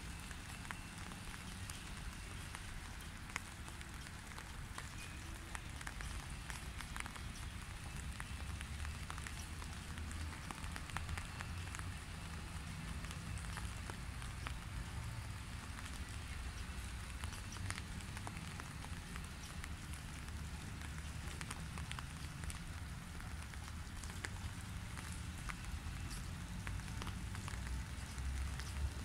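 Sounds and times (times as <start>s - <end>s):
rain patter on a puddle: 0.0s - 29.0s.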